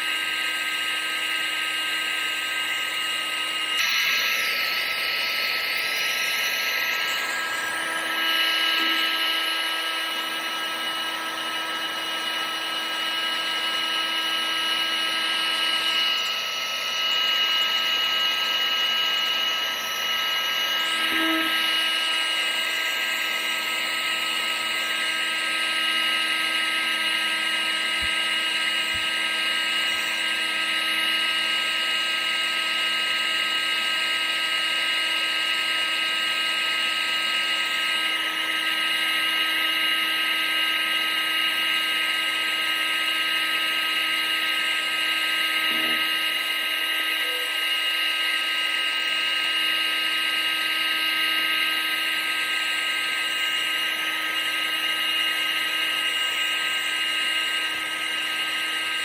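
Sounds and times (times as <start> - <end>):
appliance motor whining: 0.0 - 59.0.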